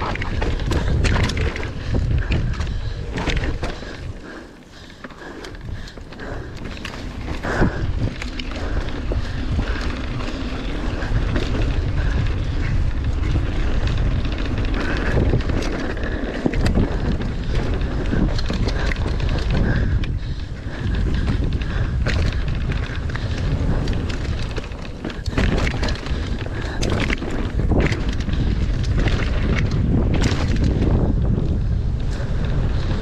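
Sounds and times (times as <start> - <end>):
bike rattling clicks and knocks: 0.0 - 33.0
tyres rumbling on dirt: 0.0 - 33.0
wind buffeting microphone: 0.0 - 33.0.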